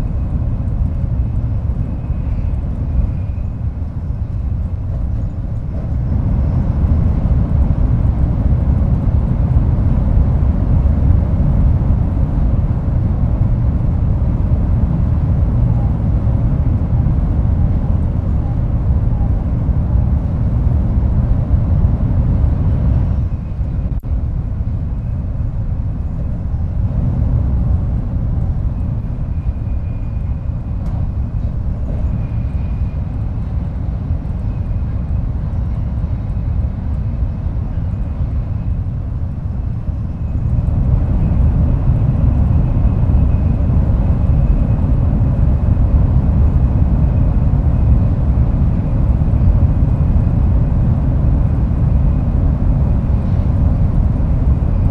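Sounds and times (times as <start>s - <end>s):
train running rumble: 0.0s - 54.9s.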